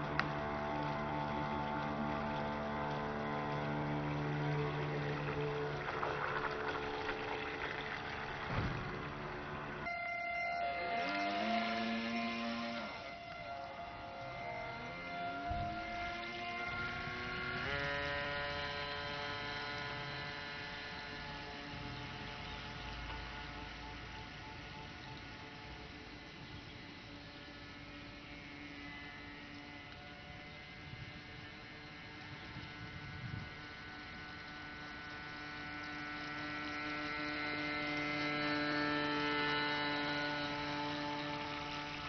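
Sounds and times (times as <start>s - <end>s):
model boat motor whining: 0.0s - 42.0s.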